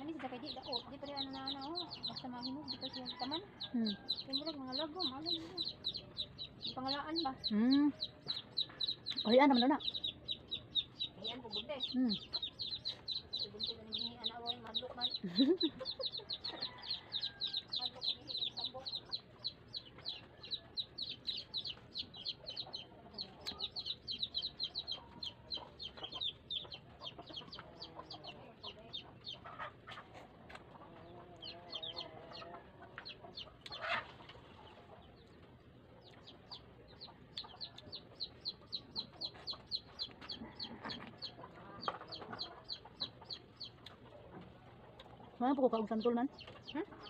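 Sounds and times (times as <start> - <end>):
chickens chirping: 0.0 - 47.0
chickens clucking: 0.0 - 47.0.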